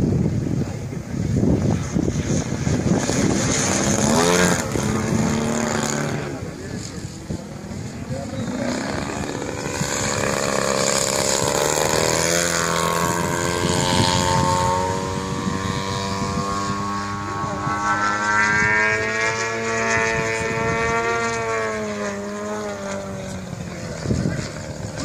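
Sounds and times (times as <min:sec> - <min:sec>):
model airplane engine drone: 0:00.0 - 0:25.0.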